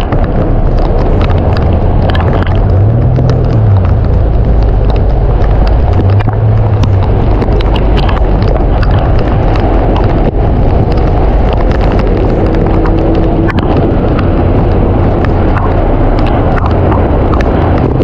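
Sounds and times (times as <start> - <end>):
low hum: 0.0 - 18.0
rain drops ticking: 0.0 - 18.0
wind rumbling on microphone: 0.0 - 18.0.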